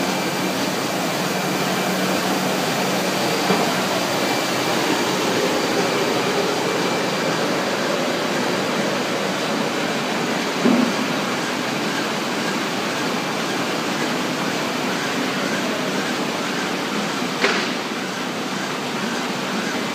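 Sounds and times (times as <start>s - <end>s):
printing press running: 0.0s - 19.9s.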